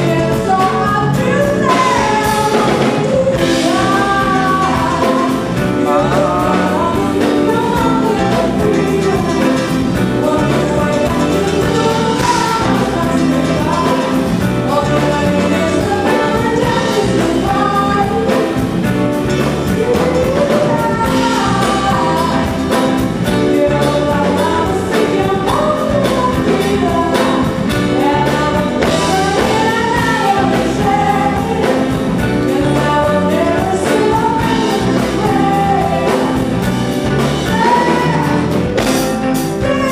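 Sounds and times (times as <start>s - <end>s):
drums beat: 0.0s - 39.9s
electric guitar: 0.0s - 39.9s
keyboards: 0.0s - 39.9s
woman singing: 0.0s - 39.9s.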